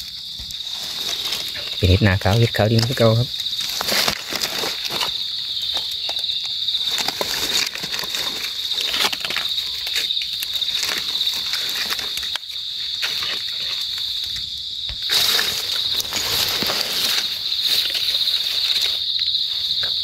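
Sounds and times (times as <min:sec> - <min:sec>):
leaf litter crackling: 0:00.0 - 0:14.4, 0:15.0 - 0:19.1
high-pitched insect chorus: 0:00.0 - 0:20.0.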